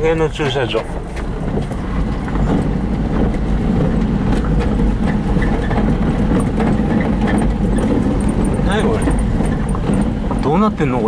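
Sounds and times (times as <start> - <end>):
car engine: 0.0 - 11.0
tyres on gravel: 0.0 - 11.0.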